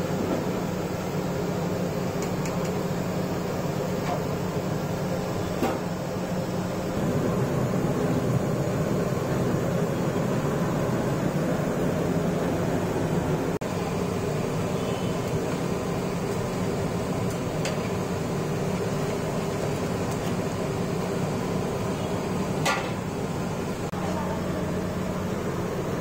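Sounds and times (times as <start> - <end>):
deep-frying oil sizzling: 0.0 - 26.0.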